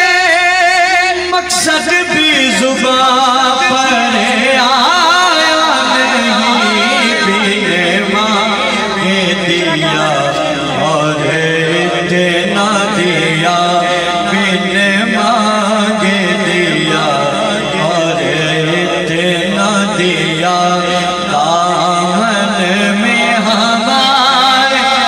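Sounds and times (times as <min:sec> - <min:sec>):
man singing into a microphone: 0:00.0 - 0:25.0
steady low drone: 0:00.2 - 0:25.0.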